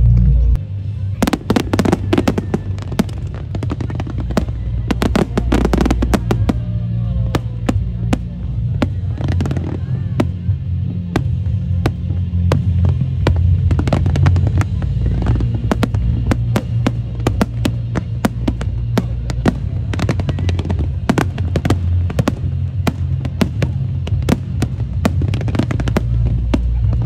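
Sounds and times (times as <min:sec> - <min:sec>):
music with heavy bass: 0:00.0 - 0:27.0
fireworks bangs and crackles: 0:00.9 - 0:27.0.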